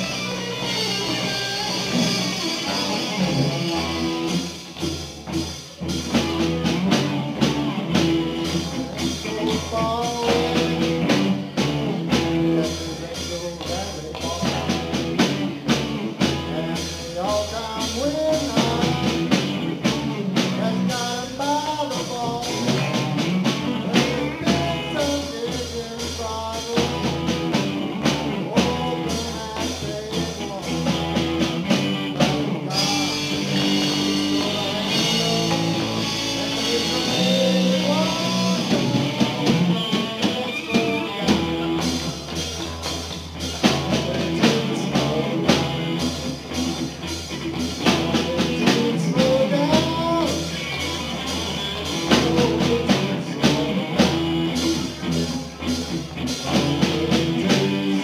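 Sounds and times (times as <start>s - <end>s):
pitch-bending lead guitar line: 0.0s - 58.0s
rock band playing: 0.0s - 58.0s.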